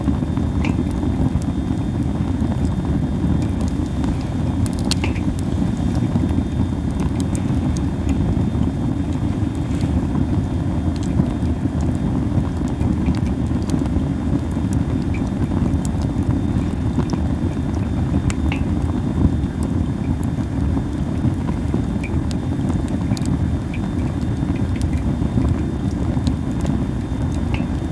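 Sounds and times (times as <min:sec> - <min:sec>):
low fire rumble: 0:00.0 - 0:27.9
wood fire crackling and popping: 0:00.0 - 0:27.9.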